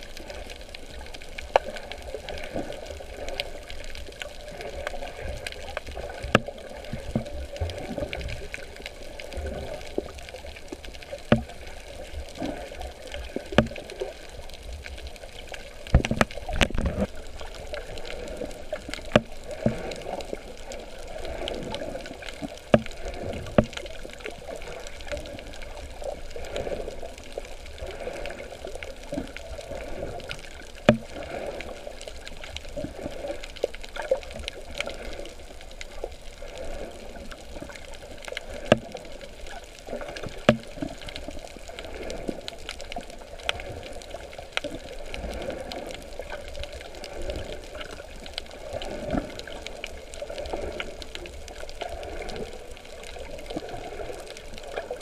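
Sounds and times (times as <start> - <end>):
water sloshing and bubbling: 0.0 - 55.0.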